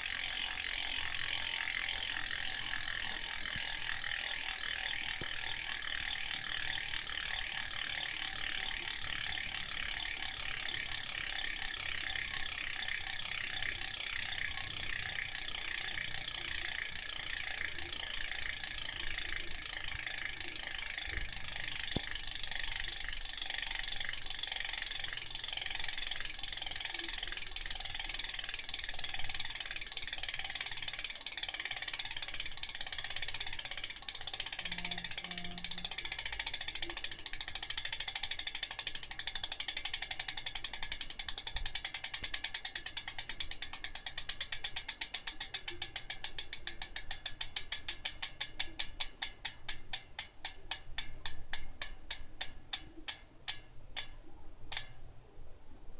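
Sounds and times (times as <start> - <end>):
bicycle freehub ratchet clicking: 0.0 - 55.0.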